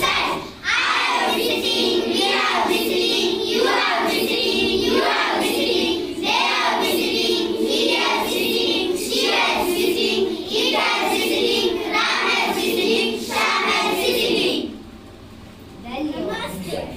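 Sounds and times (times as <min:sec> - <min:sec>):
children singing in unison: 0:00.0 - 0:14.8.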